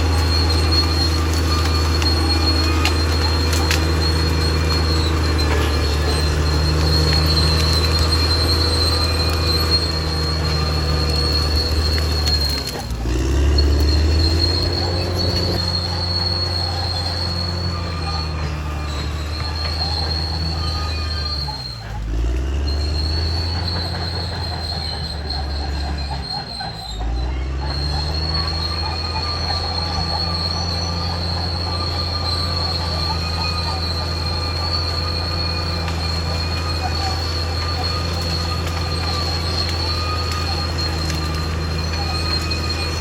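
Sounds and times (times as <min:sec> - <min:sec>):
bulldozer diesel engine running: 0:00.0 - 0:43.0
steel tracks squealing: 0:00.0 - 0:43.0.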